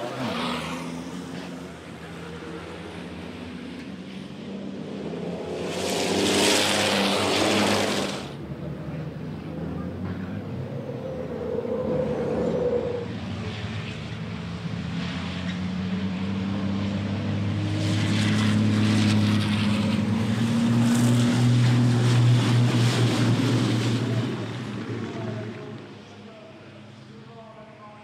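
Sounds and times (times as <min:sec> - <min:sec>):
race truck engines passing: 0:00.0 - 0:27.3.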